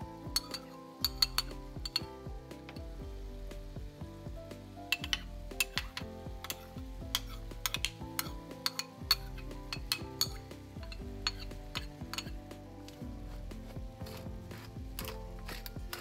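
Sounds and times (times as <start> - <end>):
background music: 0.0 - 16.0
utensil clinking and scraping cookware: 0.3 - 2.9, 4.9 - 16.0.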